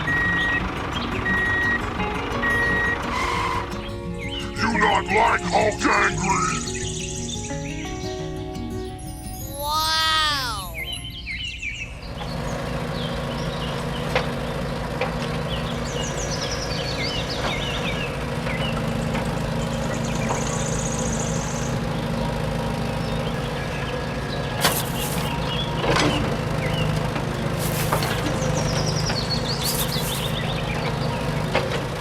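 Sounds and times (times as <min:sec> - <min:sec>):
vehicle engine running: 0:00.0 - 0:09.4, 0:10.8 - 0:32.0
birds chirping: 0:00.0 - 0:32.0.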